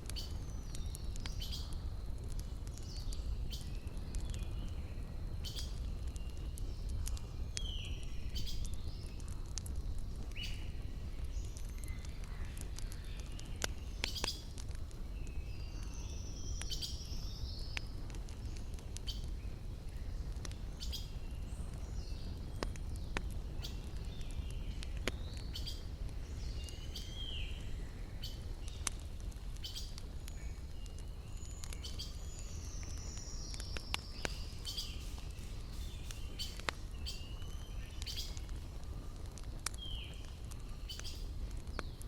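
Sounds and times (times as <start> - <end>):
campfire crackling and popping: 0.0 - 42.0.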